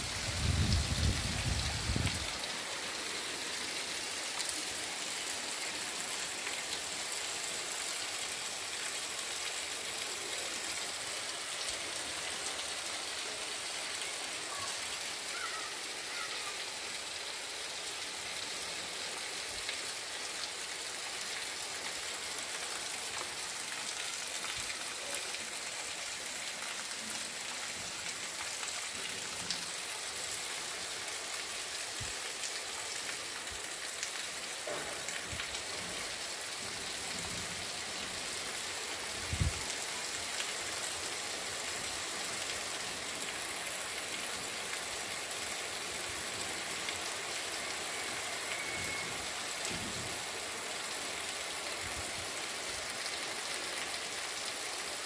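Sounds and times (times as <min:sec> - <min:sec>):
heavy rain on cobblestones: 0:00.0 - 0:55.0
rainwater running over stones: 0:00.0 - 0:55.0.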